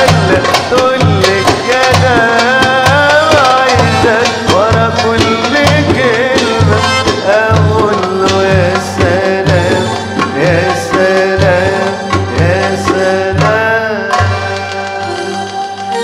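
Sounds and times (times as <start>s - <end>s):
accordion melody: 0.0s - 16.0s.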